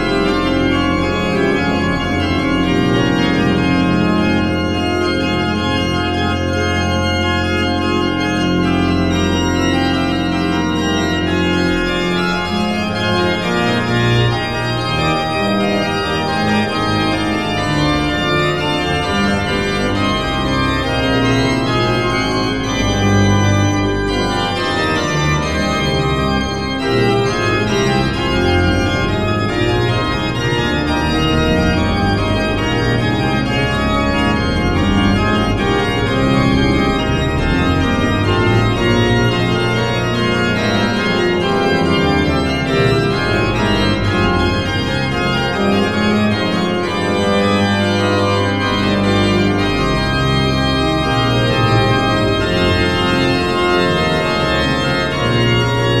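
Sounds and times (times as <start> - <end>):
church organ sustained chords: 0.0 - 56.0.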